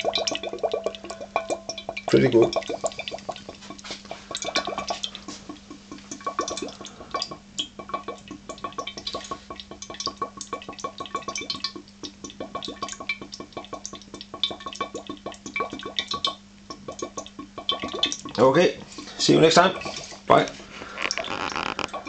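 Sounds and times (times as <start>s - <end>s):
gas bubbling through water: 0.0s - 22.0s
steady low hum: 0.0s - 22.0s.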